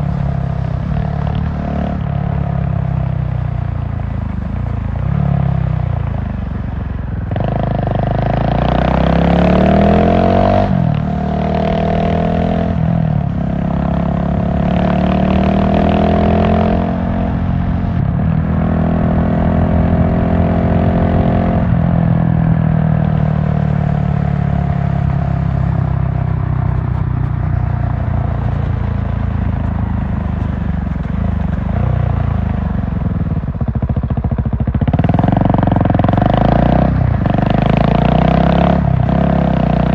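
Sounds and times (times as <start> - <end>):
motorcycle engine revving through gears: 0.0 - 6.6, 7.2 - 39.9.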